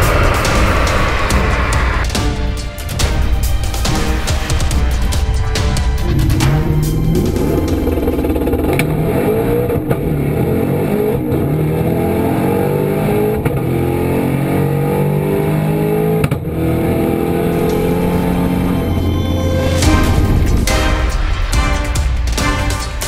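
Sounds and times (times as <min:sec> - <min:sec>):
car engine at full throttle: 0:00.0 - 0:20.7.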